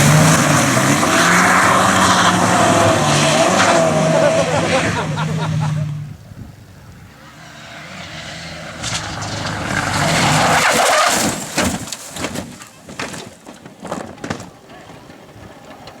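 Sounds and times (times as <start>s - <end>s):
sharp exhaust crackles: 0.0s - 12.9s
rally car engine at full throttle: 0.0s - 13.2s.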